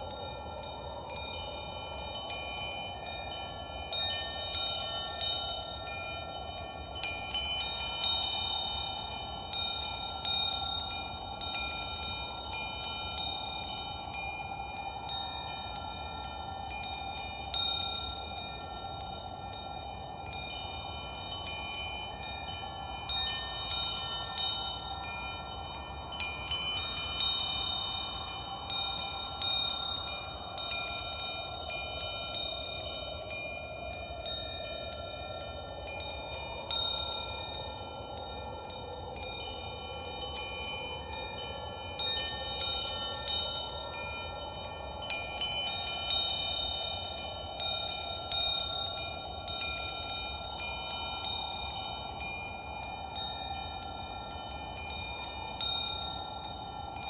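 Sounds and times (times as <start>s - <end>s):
metal wind chimes ringing: 0.0s - 57.0s.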